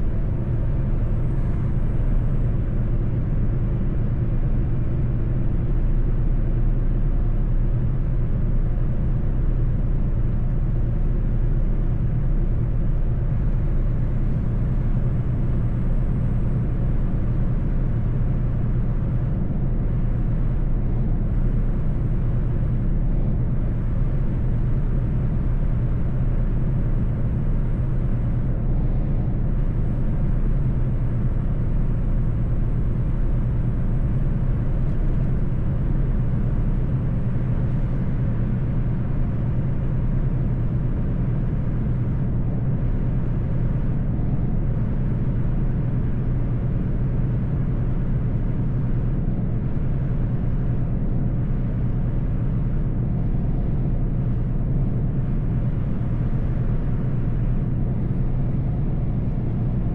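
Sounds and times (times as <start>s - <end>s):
truck diesel engine drone: 0.0s - 59.9s.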